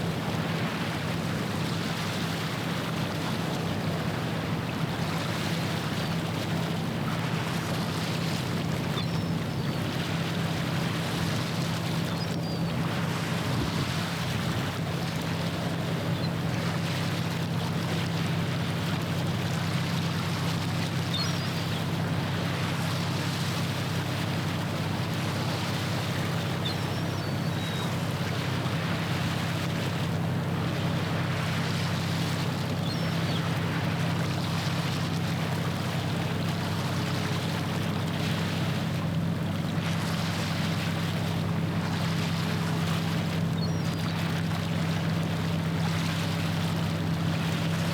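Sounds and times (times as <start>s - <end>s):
wind: 0.0s - 47.9s.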